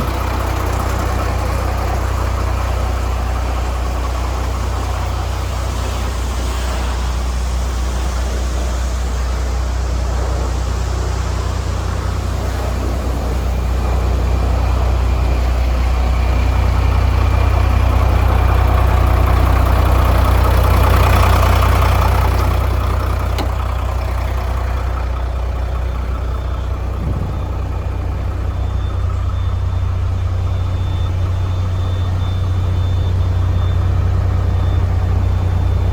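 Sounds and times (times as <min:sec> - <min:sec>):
diesel truck engine idling: 0:00.0 - 0:35.9.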